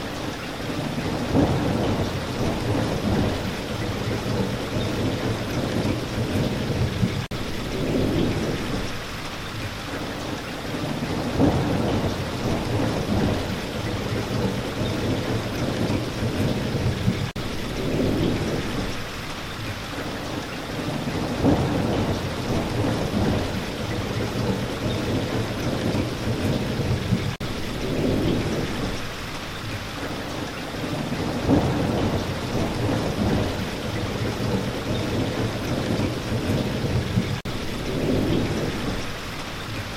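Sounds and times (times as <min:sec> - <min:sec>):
steady rain: 0:00.0 - 0:39.9
rolling thunder rumble: 0:00.6 - 0:09.1, 0:09.9 - 0:19.1, 0:19.9 - 0:39.8.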